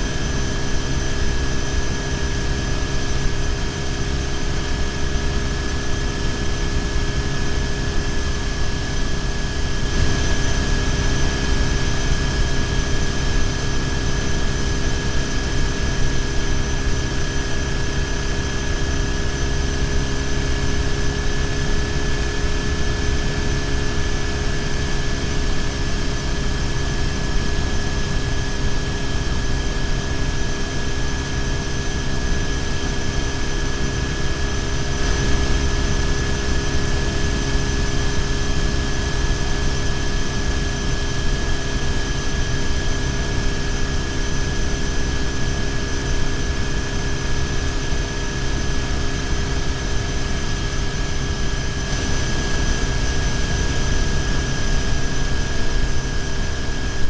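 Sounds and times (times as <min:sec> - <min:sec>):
high whine: 0:00.0 - 0:57.0.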